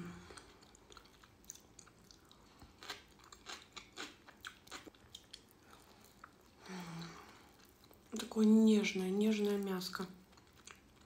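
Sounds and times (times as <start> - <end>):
chewing with wet mouth clicks: 0.2 - 8.6, 9.4 - 11.0.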